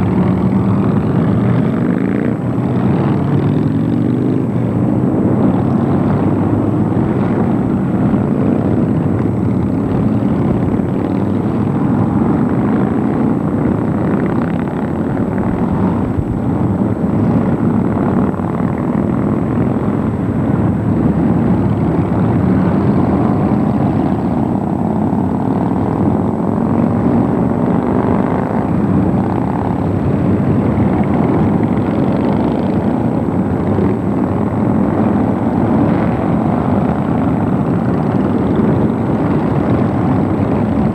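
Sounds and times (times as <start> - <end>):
many motorcycle engines rumbling: 0.0 - 40.9.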